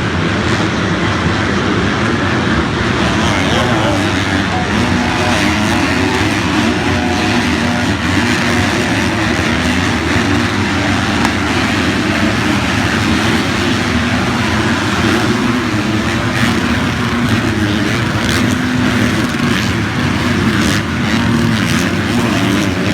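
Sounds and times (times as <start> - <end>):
motocross bike engines revving: 0.0 - 22.9.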